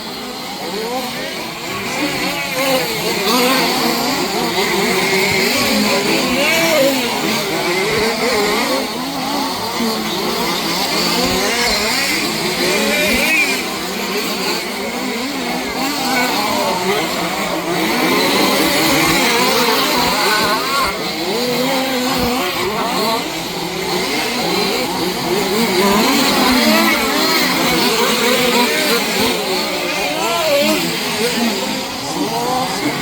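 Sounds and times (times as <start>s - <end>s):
rc car engines revving: 0.0s - 33.0s.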